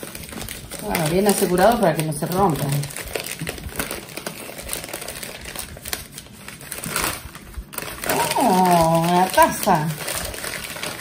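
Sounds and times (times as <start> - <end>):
paper bag crinkling: 0.0 - 11.0.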